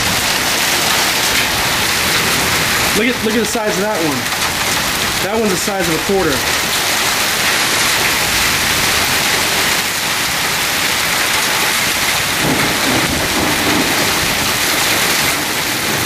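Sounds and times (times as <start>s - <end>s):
heavy rain and hail: 0.0s - 16.0s.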